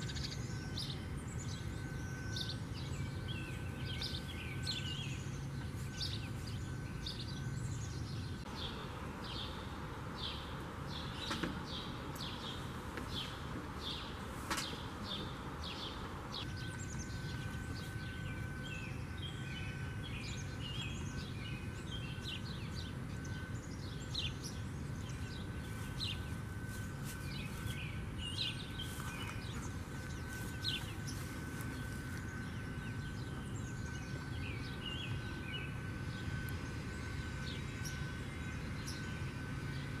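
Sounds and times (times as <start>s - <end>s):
sparrows chirping: 0.0s - 40.0s.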